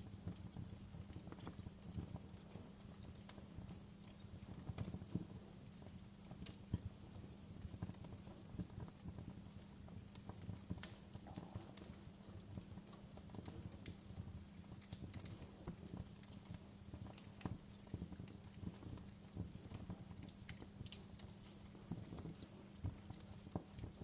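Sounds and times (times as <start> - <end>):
low rumble of flames: 0.0 - 24.0
sharp pops of burning wood: 0.0 - 24.0
wood fire crackling: 0.0 - 24.0.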